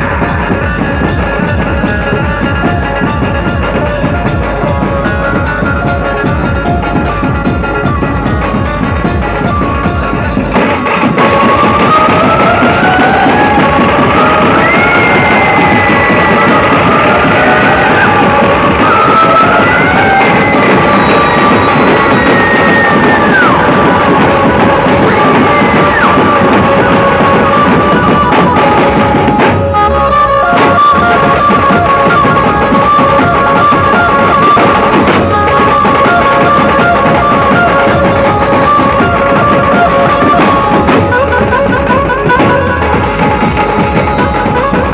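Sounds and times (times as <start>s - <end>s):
band music with heavy drums: 0.0s - 44.9s
sliding melody line: 0.0s - 44.9s.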